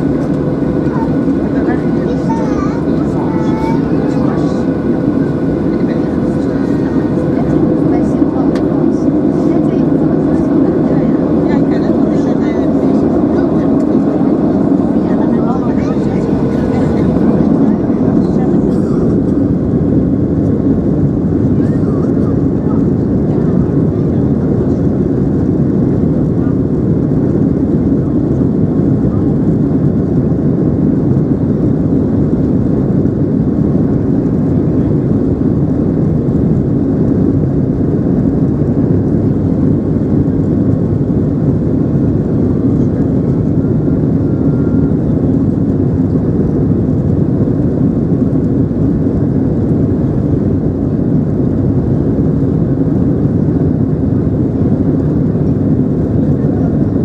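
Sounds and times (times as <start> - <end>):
jet cabin noise: 0.0 - 57.0.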